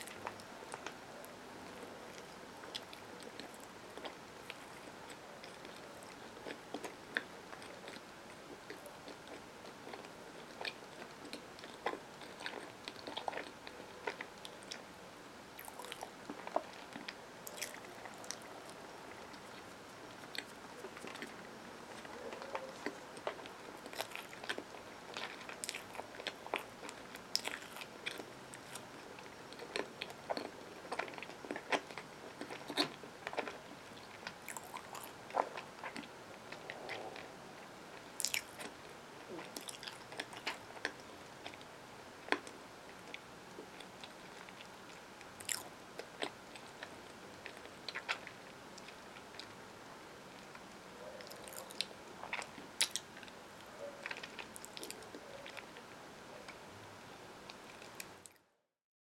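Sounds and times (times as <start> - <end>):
closed-mouth chewing: 0.0 - 49.6, 50.4 - 56.7.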